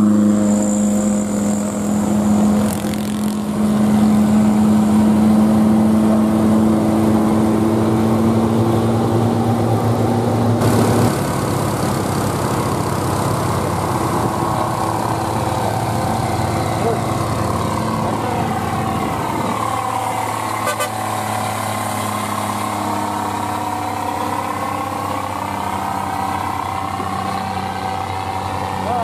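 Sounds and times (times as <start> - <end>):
diesel truck engines droning: 0.0 - 29.0.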